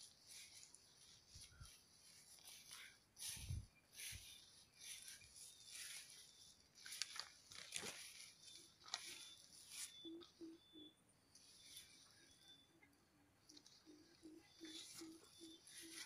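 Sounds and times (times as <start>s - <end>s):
leaves rustling against phone: 0.0s - 10.7s, 11.3s - 12.6s, 13.4s - 16.0s.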